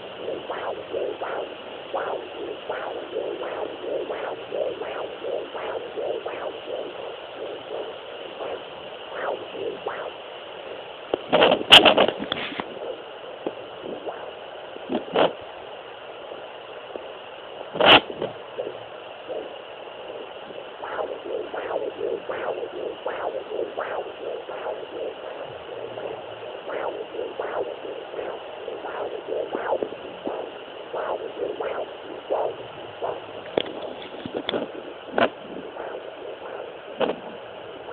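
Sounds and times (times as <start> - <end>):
crackles: 0.0 - 15.7, 16.3 - 37.9
rhythmic whooshing heartbeat pulse: 0.0 - 37.9
steady hiss: 0.0 - 37.9.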